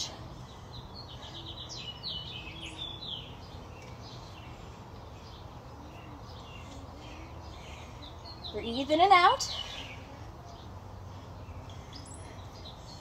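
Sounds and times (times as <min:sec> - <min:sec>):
faint outdoor background noise: 0:00.0 - 0:13.0
songbird chirping: 0:00.1 - 0:13.0.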